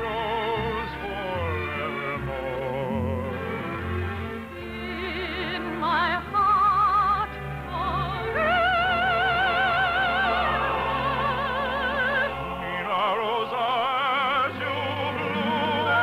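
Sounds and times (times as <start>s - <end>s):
soprano operatic singing: 0.0s - 3.6s, 4.5s - 16.0s
orchestra playing: 0.0s - 16.0s.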